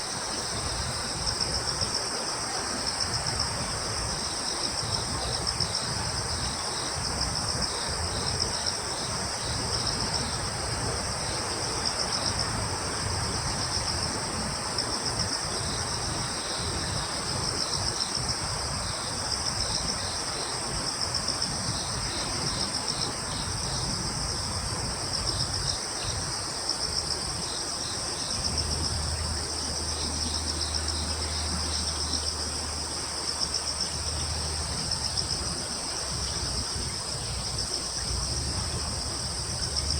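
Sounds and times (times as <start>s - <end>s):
crickets and insects trilling: 0.0s - 39.9s
soft breeze hiss: 0.0s - 39.9s.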